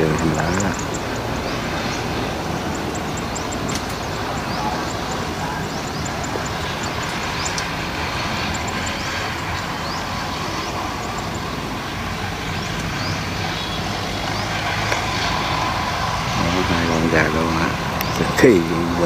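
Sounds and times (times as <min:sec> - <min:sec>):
balers running: 0:00.0 - 0:19.0
tractors running: 0:00.0 - 0:19.0.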